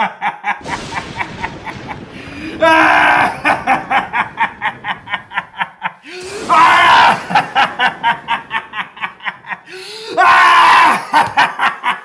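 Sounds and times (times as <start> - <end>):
man laughing wildly: 0.0 - 0.6, 3.0 - 12.0.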